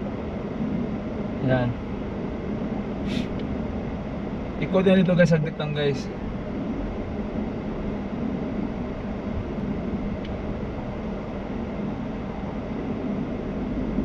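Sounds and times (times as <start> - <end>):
air conditioning blowing: 0.0 - 14.0.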